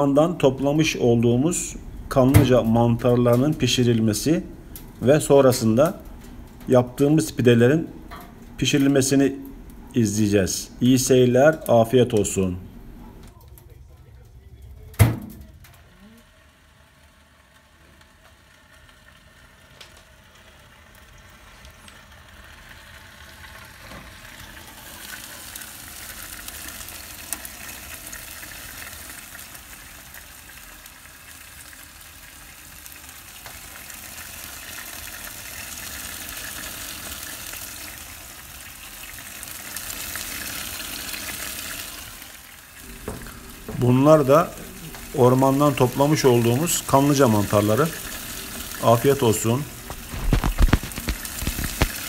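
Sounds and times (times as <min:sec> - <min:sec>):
mushrooms sizzling: 0:00.0 - 0:12.9, 0:15.8 - 0:52.0.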